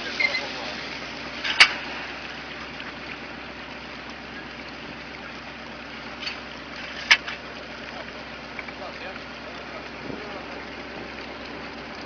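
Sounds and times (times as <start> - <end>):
low even hum: 0.0 - 12.0
steady water noise: 0.0 - 12.0.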